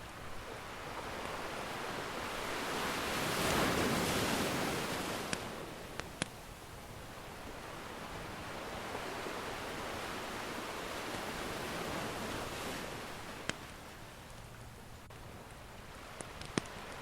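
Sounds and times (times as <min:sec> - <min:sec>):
ocean surf washing in: 0:00.0 - 0:14.3.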